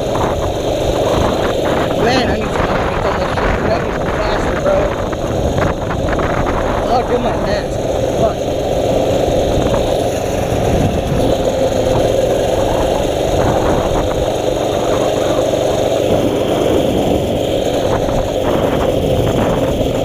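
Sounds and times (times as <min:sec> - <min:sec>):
rushing noise: 0:00.0 - 0:20.0
small engine droning: 0:00.0 - 0:20.0.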